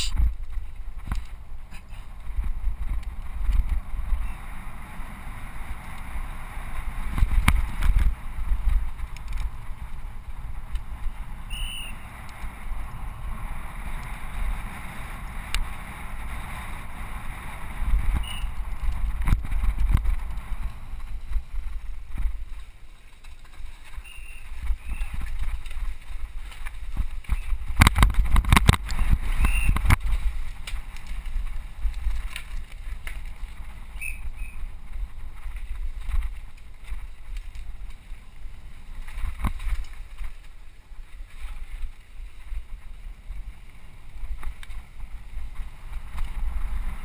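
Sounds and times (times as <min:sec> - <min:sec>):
bike rattling: 0:00.0 - 0:47.0
wind buffeting microphone: 0:00.0 - 0:47.0.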